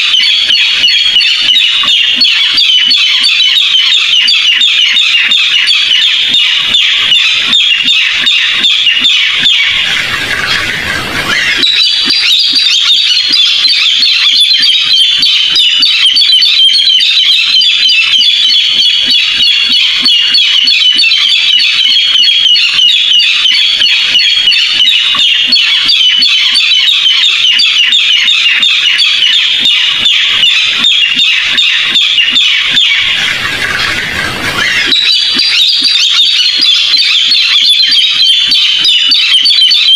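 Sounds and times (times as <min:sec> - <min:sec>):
bird calling high repeated notes: 0:00.0 - 0:39.9.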